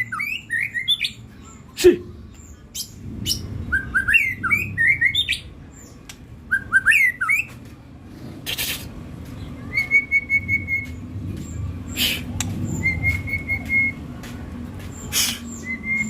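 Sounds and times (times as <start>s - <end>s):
songbird chirping: 0.0s - 7.9s, 9.2s - 16.0s.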